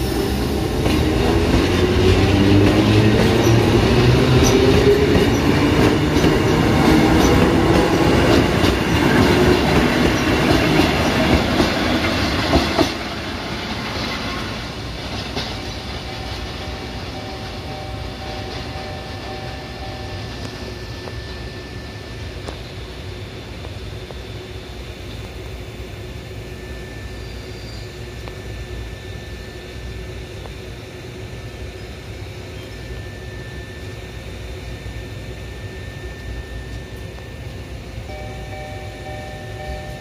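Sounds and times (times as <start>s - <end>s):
trains rumbling and hissing: 0.0s - 40.0s.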